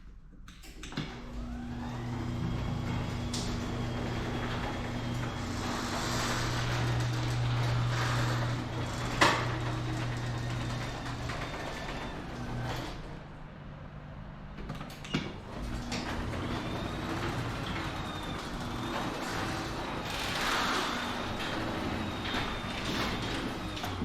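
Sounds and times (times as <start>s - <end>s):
garage door rollers rumbling: 0.9s - 13.4s, 14.4s - 24.0s.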